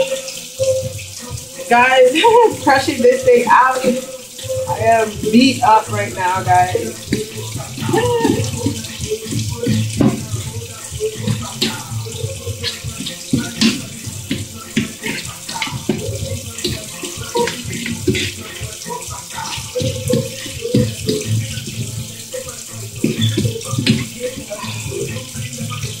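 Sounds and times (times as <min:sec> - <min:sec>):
wet squishing of mashing: 0:00.0 - 0:26.0.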